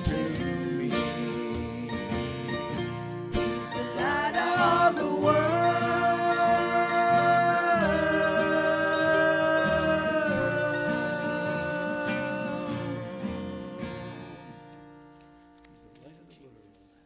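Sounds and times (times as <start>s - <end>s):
gospel singers holding a note: 0.0s - 14.8s
acoustic guitar: 0.0s - 17.0s.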